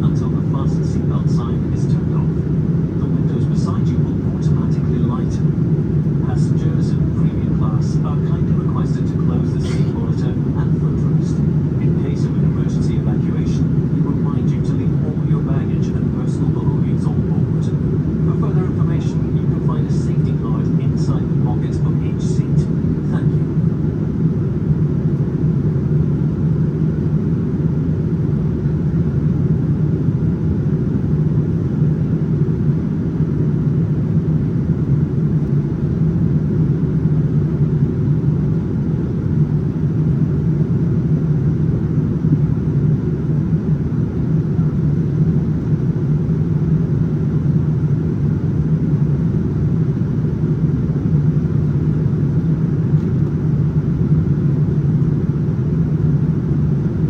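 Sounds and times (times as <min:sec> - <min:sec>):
airliner cabin engine rumble: 0:00.0 - 0:57.0
steady cabin hum: 0:00.0 - 0:57.0.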